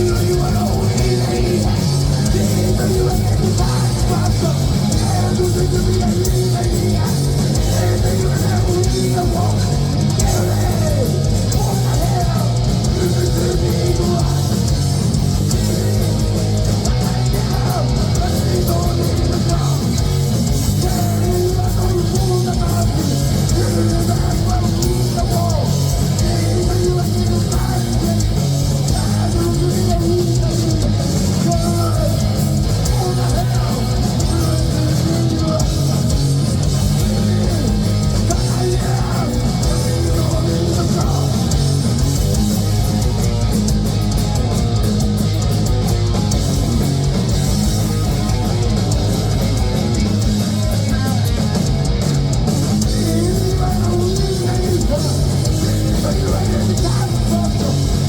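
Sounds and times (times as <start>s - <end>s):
heavy metal band playing: 0.0s - 58.0s.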